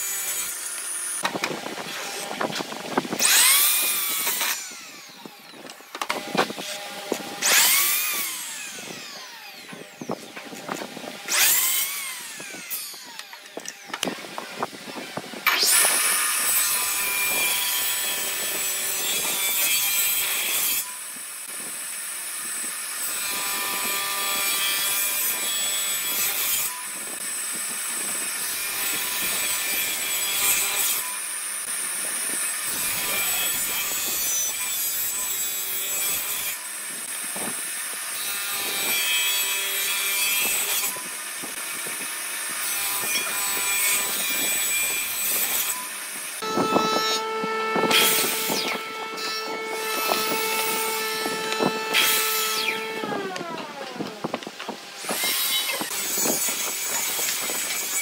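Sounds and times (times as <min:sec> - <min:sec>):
table saw cutting wood: 0:00.0 - 0:58.0.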